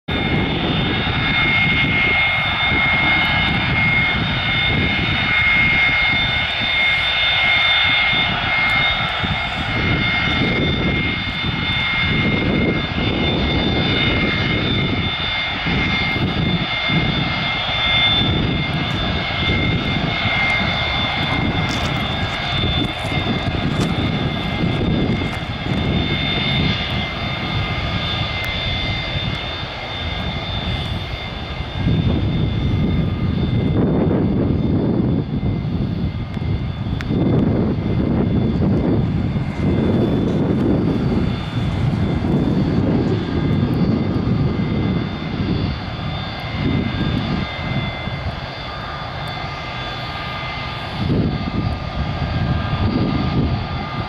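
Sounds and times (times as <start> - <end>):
jet engines whining: 0.1 - 54.0
low unsteady rumble: 0.2 - 54.0.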